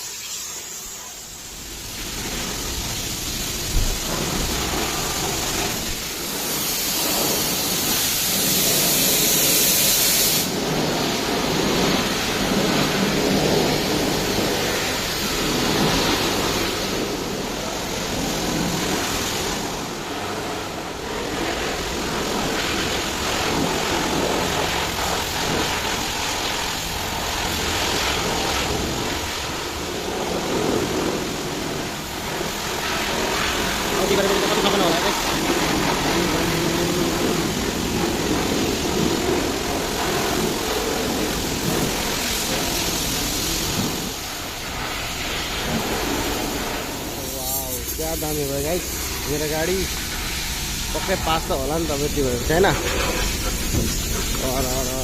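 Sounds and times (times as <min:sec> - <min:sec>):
pressure washer spray hissing: 0:00.0 - 0:55.0
water spattering on car: 0:00.0 - 0:55.0.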